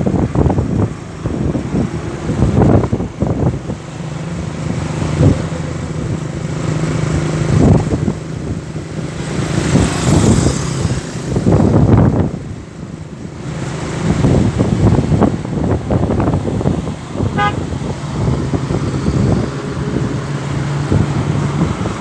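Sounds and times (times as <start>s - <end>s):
bus engine pulling out: 0.0s - 22.0s.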